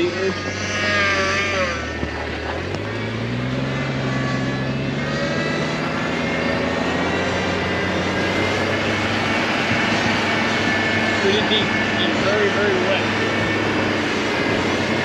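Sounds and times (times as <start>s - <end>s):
driving through deep snow: 0.0s - 15.0s
truck engine revving: 0.0s - 15.0s.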